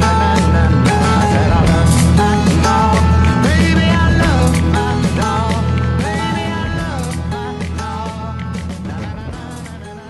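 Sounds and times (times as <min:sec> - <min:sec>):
background song: 0:00.0 - 0:10.0.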